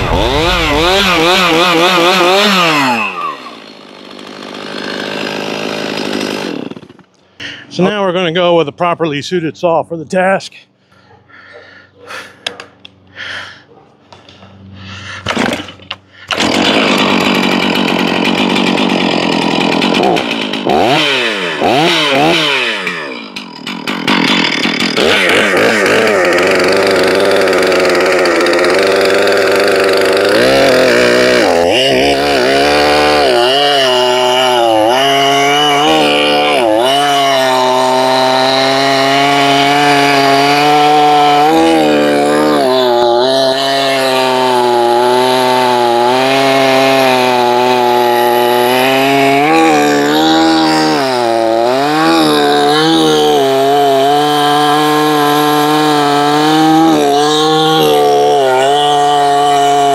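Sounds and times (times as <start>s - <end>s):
chainsaw cutting log: 0.0s - 8.0s, 15.2s - 59.9s.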